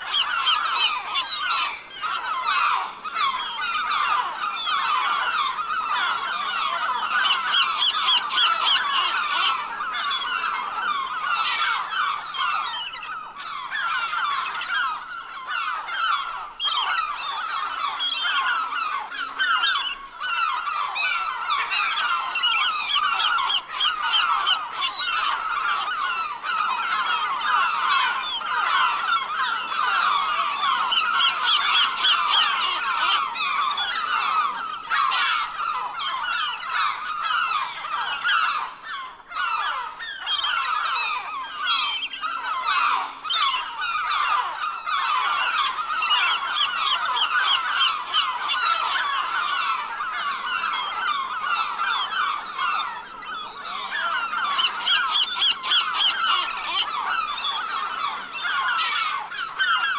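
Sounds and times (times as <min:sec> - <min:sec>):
gulls calling: 0:00.0 - 0:59.9.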